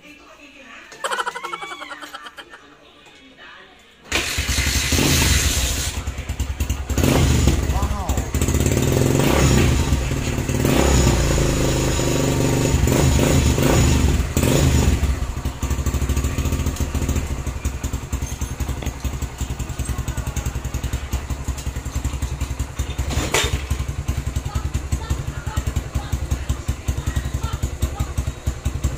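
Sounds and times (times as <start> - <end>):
motorcycle engine revving and idling: 4.1 - 28.9.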